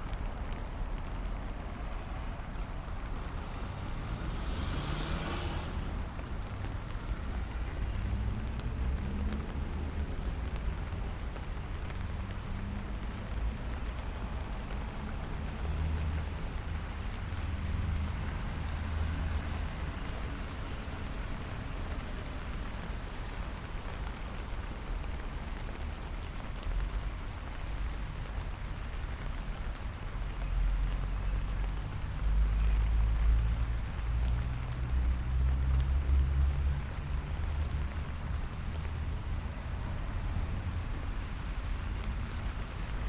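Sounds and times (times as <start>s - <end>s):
city traffic rumble: 0.0s - 43.0s
light rain on pavement: 0.0s - 43.0s.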